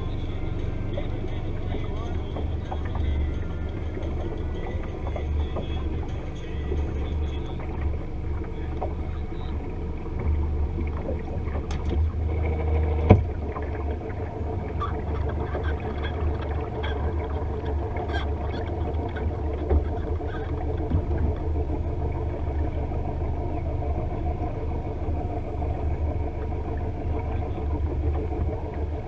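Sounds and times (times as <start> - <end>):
steady low rumble: 0.0 - 29.0
water lapping against boat hull: 0.0 - 29.0.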